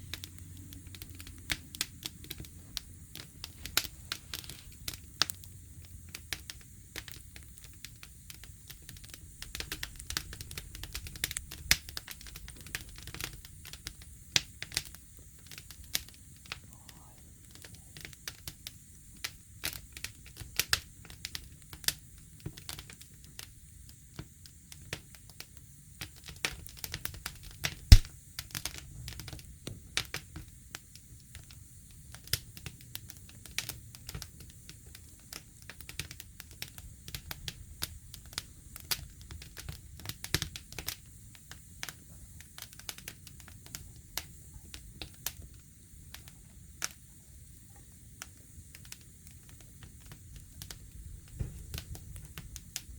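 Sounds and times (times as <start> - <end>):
campfire crackling and popping: 0.0 - 52.9
low rumble of flame: 0.0 - 52.9.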